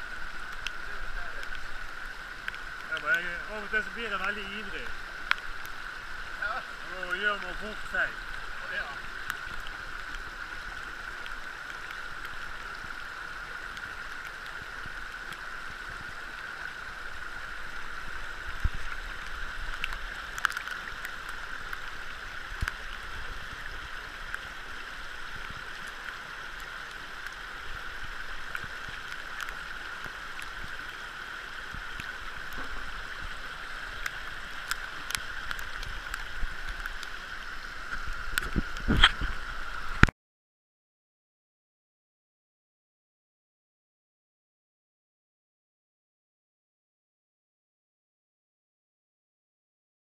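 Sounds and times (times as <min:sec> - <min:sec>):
stream rushing over rocks: 0:00.0 - 0:40.1.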